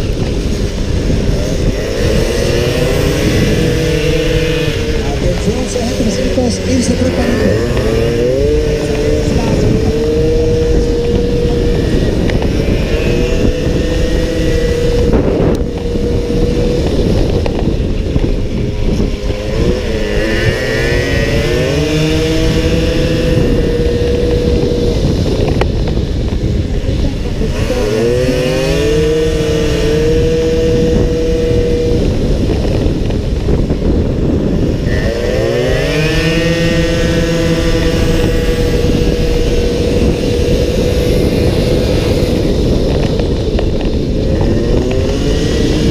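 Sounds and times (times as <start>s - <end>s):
scooter engine at high revs: 0.0s - 45.9s
wind rushing over microphone: 0.0s - 45.9s.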